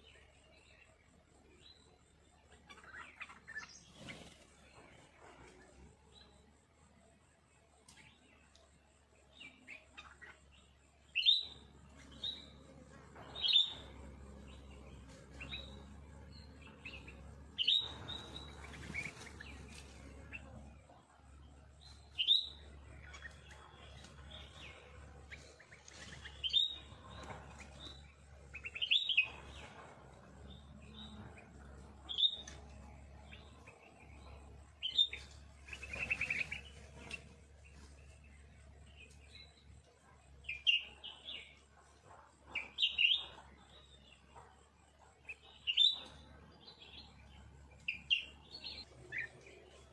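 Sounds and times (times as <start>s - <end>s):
wild birds chirping: 0.0s - 49.9s.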